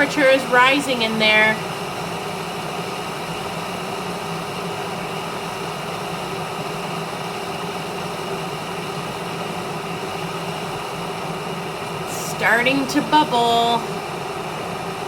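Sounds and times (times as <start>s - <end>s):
electric kettle hissing rumble: 0.0s - 15.0s.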